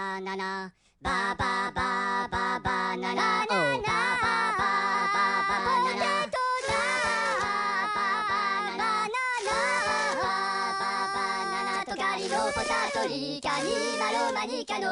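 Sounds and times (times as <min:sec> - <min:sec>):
person singing: 0:00.0 - 0:14.9.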